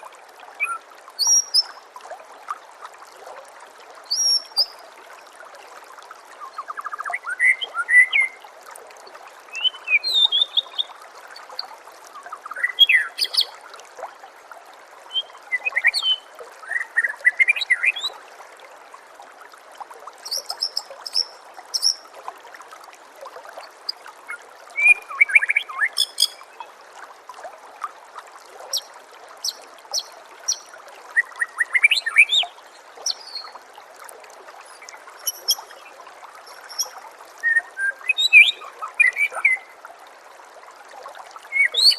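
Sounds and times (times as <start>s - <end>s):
trickling water hiss: 0.0s - 41.9s.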